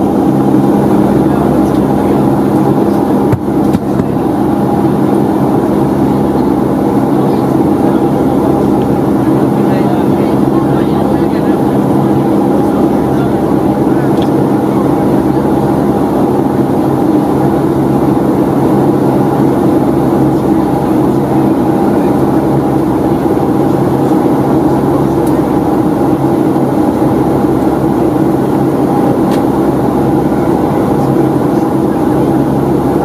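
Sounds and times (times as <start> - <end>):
jet engines humming: 0.0 - 33.0
rushing air in cabin: 0.0 - 33.0.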